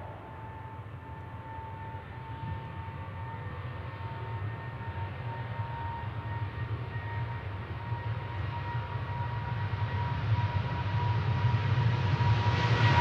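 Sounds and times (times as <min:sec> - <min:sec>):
jet engines whining and rumbling: 0:00.0 - 0:13.0.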